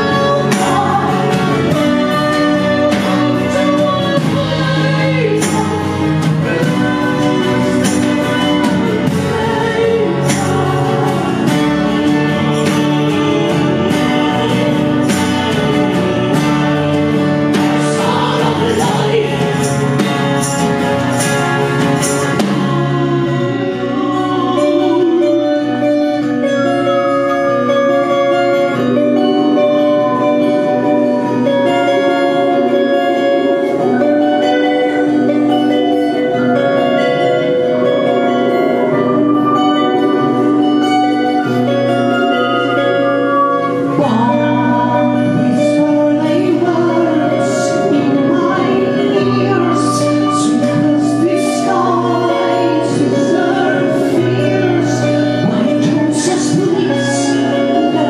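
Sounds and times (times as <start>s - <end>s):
live band playing electro-acoustic music: 0.0s - 58.0s
person singing: 0.0s - 58.0s.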